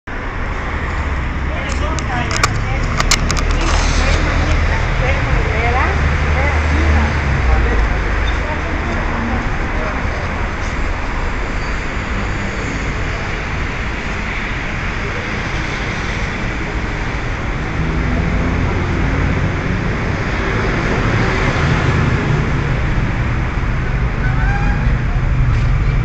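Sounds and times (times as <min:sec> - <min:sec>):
city street traffic: 0:00.0 - 0:26.0
vehicle engine drone: 0:00.1 - 0:26.0.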